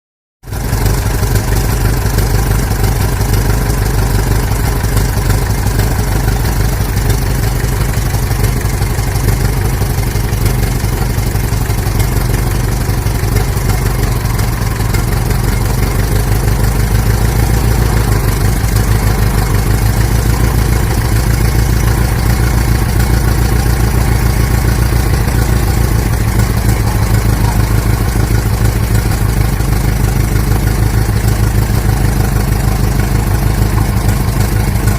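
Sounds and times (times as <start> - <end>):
car engine idling: 0.4 - 34.9.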